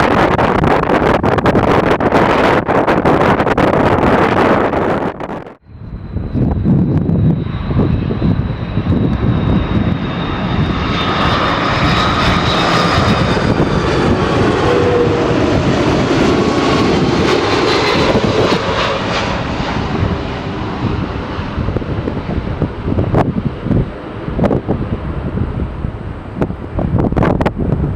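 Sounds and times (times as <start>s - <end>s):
jet engine whine and rumble: 0.0s - 27.9s
wind buffeting microphone: 0.0s - 27.9s.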